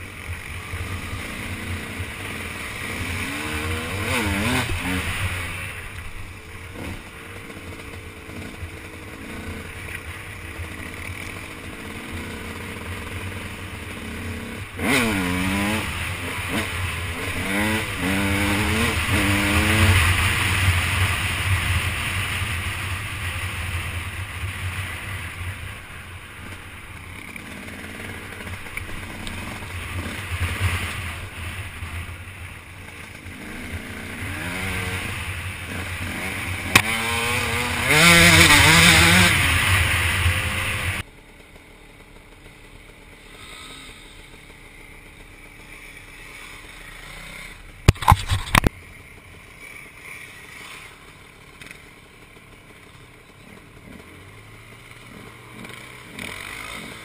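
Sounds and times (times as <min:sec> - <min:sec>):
dirt bike engine revving: 0:00.0 - 0:48.7, 0:49.6 - 0:57.0.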